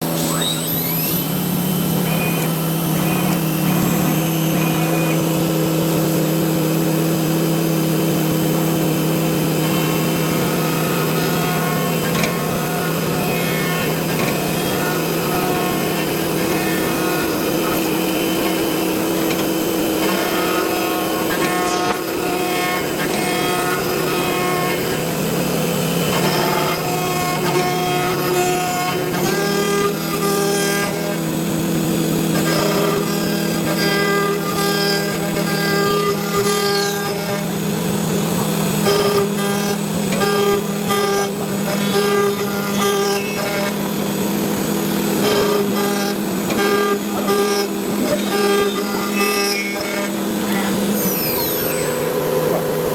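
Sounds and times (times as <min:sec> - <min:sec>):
rasping cutting noise: 0:00.0 - 0:52.9
wood router spindle humming: 0:00.0 - 0:52.9.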